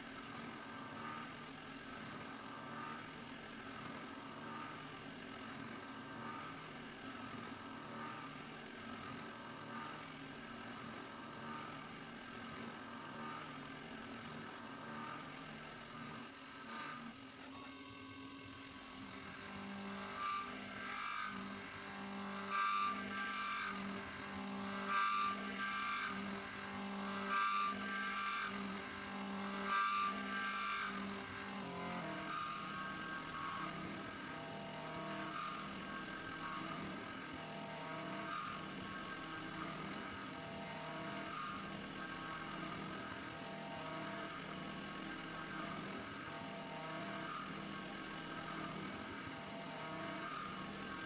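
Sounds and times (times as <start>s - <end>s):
milling machine whine and cutting: 0.0s - 51.0s.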